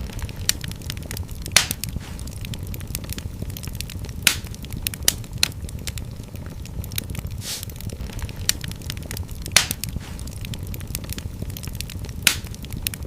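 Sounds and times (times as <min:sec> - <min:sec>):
fire crackling and popping: 0:00.0 - 0:13.0
low rumble of fire: 0:00.0 - 0:13.0.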